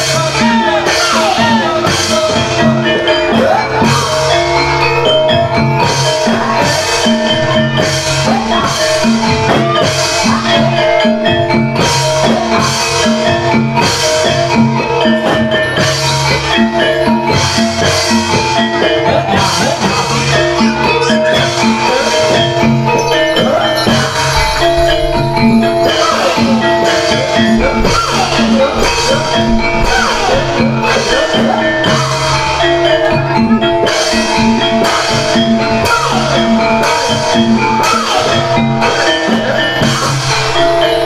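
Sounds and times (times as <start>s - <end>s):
metallophones ringing melody: 0.0s - 41.0s
steady drum beat: 5.2s - 40.1s.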